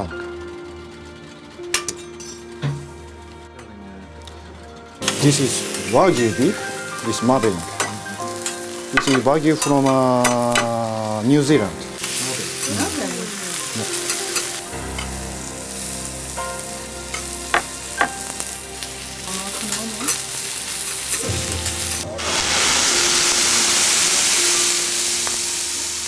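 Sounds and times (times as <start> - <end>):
beef sizzling on hot plate: 5.0 - 26.0
loud hiss of flambe: 5.0 - 26.0.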